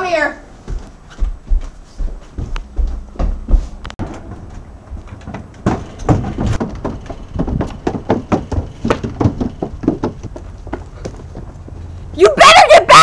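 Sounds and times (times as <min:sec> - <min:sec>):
footsteps on wooden stairs: 0:00.6 - 0:12.0.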